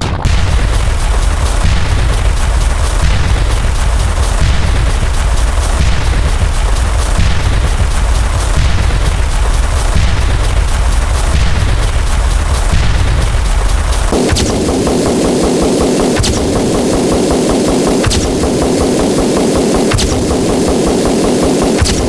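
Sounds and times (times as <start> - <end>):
rapid booming hits: 0.0 - 22.0
continuous deep rumble: 0.2 - 22.0.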